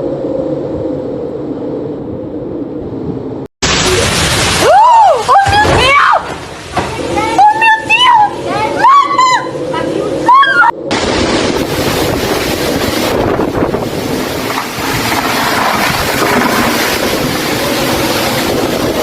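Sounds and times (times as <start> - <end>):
storm wind buffeting microphone: 0.0 - 4.6, 5.4 - 19.0.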